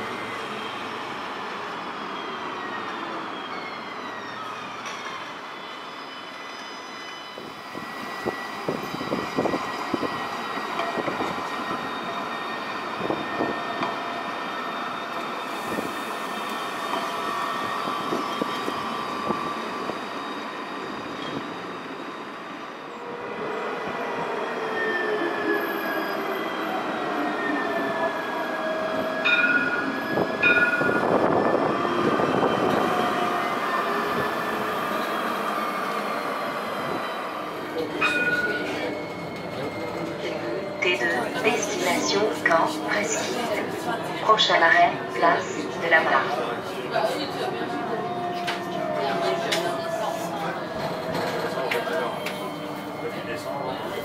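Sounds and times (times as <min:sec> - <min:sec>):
tram electric drive whining: 0:00.0 - 0:54.0.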